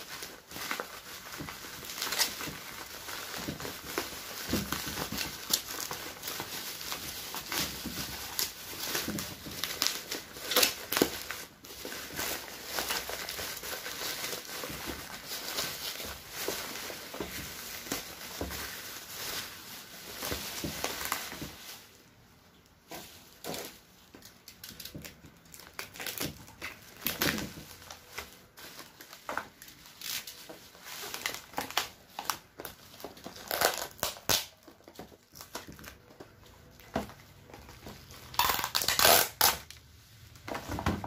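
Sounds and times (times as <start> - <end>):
bubble wrap crinkling: 0.0 - 41.0.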